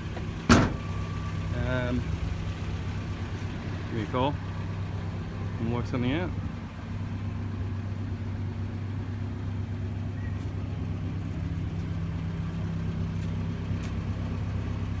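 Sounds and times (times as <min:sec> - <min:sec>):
van engine idling: 0:00.0 - 0:15.0.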